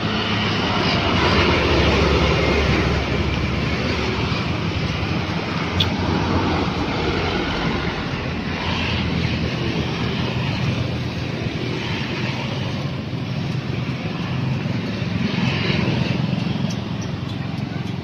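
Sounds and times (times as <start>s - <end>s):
motorbikes passing: 0.0s - 18.0s
passing trucks: 0.0s - 18.0s.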